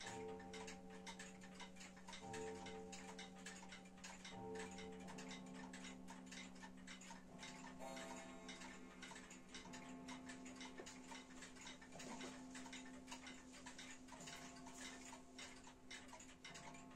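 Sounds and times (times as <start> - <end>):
wall clock ticking: 0.0 - 16.9.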